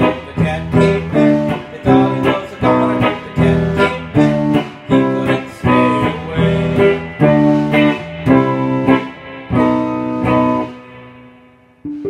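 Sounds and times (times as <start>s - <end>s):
electric guitar strumming chords: 0.0s - 12.0s.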